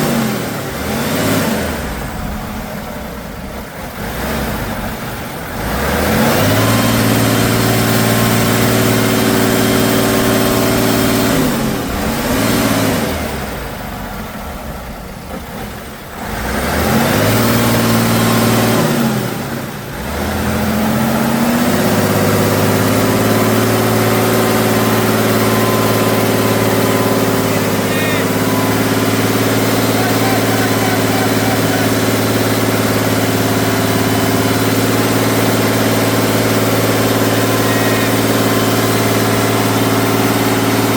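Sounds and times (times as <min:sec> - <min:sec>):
truck engine revving under load: 0:00.0 - 0:40.9.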